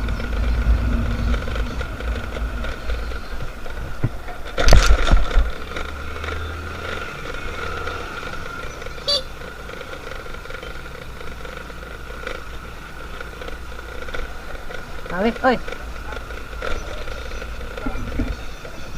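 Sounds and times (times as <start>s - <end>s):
motorcycle engine whine and rumble: 0.0s - 18.9s.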